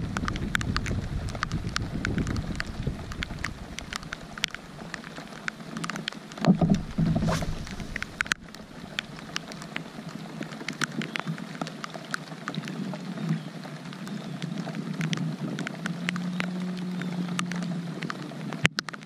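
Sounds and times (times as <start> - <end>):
rain falling on water: 0.0 - 19.0
single raindrops striking close: 0.0 - 19.0.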